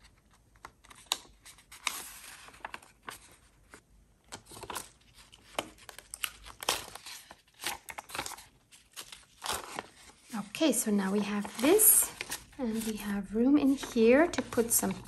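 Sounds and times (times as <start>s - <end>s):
stiff paper rustling: 0.0s - 15.0s.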